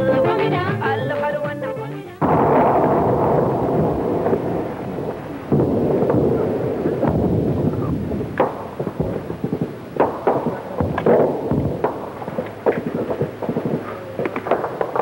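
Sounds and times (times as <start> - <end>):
continuous low rumble: 0.0 - 15.0
gunfire and explosion bangs: 2.2 - 15.0.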